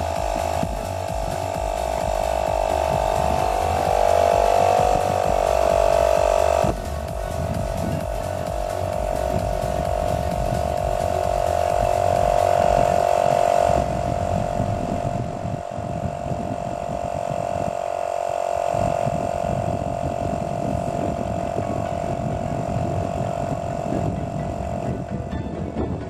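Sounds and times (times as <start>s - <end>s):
electric air pump whining: 0.0s - 26.0s.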